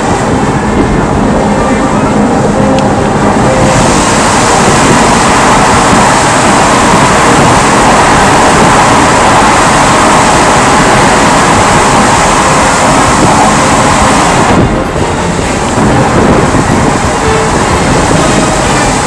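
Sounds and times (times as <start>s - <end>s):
car road noise: 0.0s - 19.0s
wind rushing: 0.0s - 19.0s.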